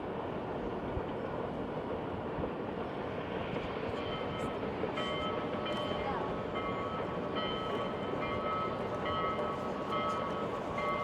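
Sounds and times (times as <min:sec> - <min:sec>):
steam train rumbling along track: 0:00.0 - 0:11.0.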